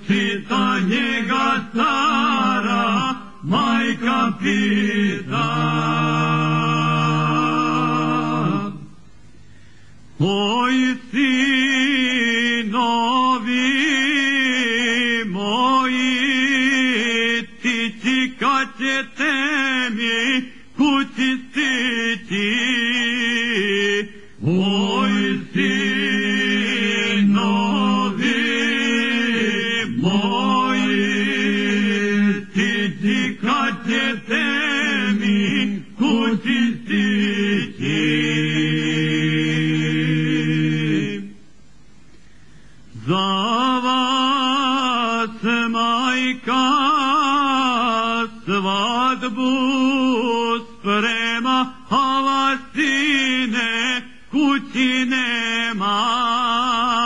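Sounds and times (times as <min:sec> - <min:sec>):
men singing unaccompanied folk song: 0:00.0 - 0:09.0, 0:10.2 - 0:41.4, 0:43.0 - 0:57.0.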